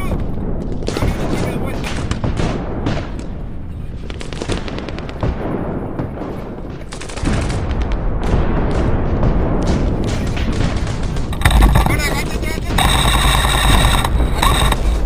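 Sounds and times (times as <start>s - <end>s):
airsoft guns firing: 0.2s - 15.0s.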